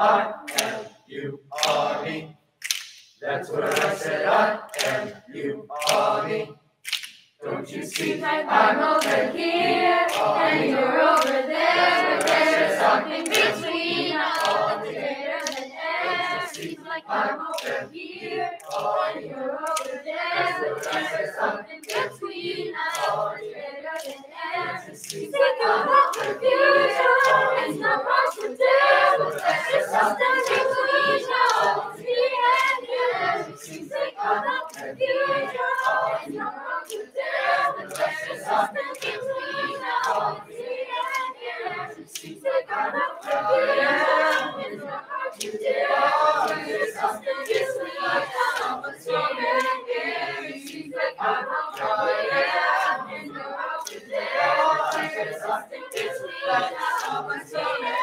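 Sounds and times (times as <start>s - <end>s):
hand claps on the beat: 0.0s - 58.0s
youth choir singing gospel song: 0.0s - 58.0s.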